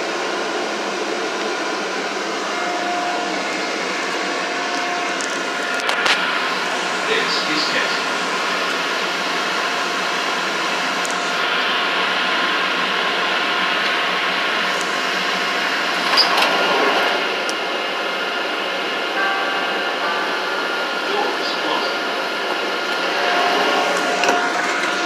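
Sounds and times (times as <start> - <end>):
train interior rumble with motor whine: 0.0 - 25.0.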